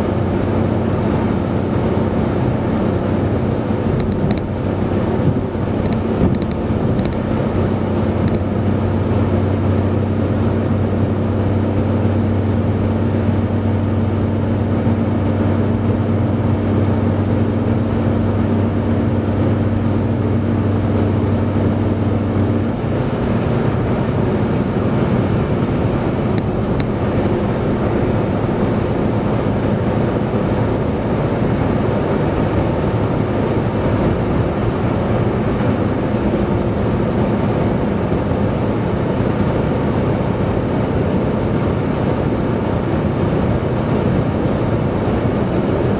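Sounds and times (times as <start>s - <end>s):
car engine hum: 0.0s - 45.9s
low droning hum: 0.0s - 45.9s
road and tyre noise: 0.0s - 45.9s.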